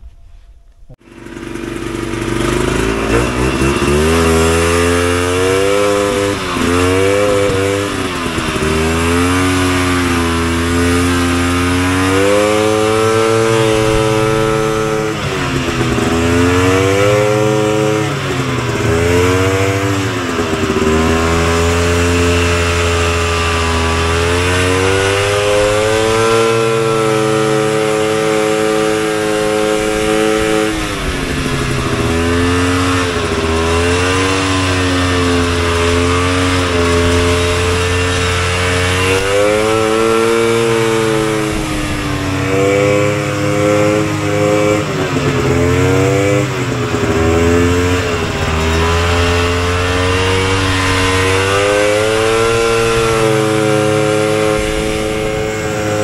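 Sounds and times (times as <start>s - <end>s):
two-stroke engine revving: 0.9s - 56.0s.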